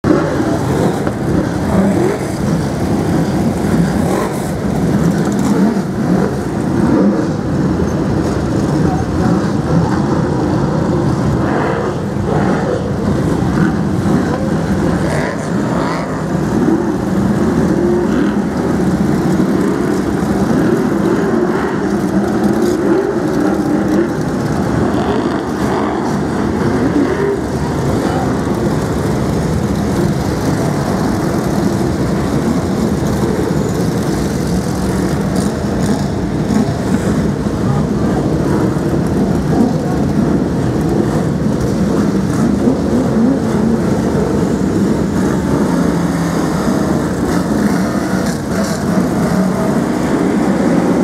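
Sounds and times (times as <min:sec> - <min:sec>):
racing car engines droning: 0:00.0 - 0:51.0.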